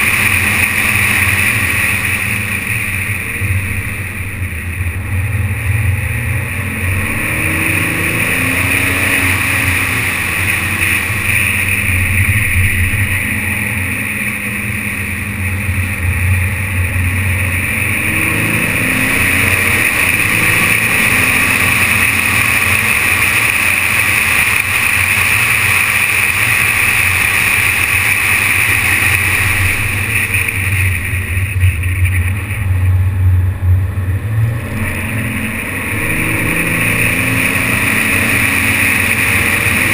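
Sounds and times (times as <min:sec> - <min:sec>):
muffled car driving rumble: 0:00.0 - 0:39.9.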